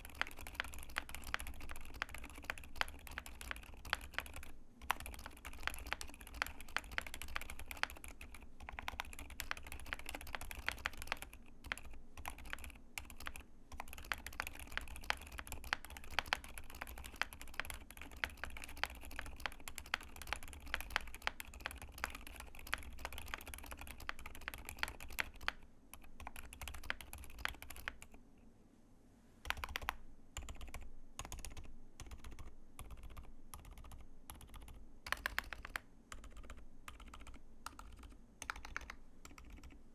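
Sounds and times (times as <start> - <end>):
dampened keyboard typing: 0.0 - 28.2, 29.4 - 39.8.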